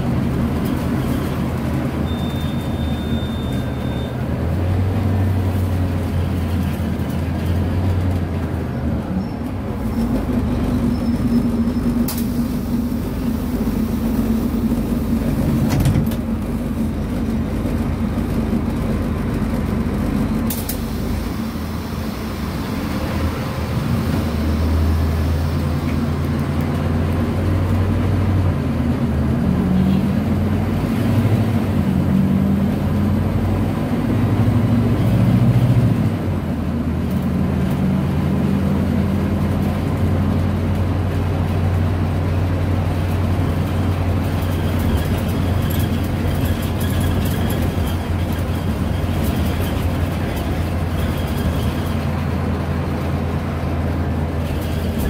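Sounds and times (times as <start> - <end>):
bus diesel engine under load: 0.0 - 55.0.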